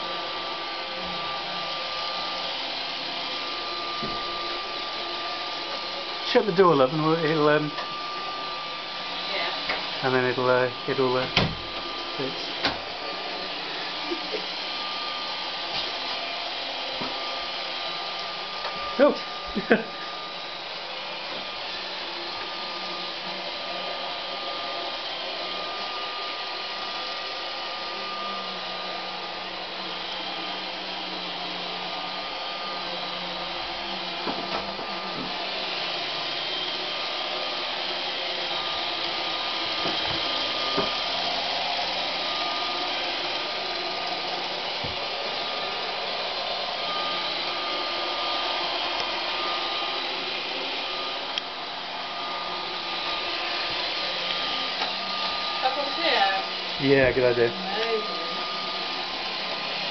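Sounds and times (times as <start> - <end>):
robot vacuum whirring: 0.0 - 59.9.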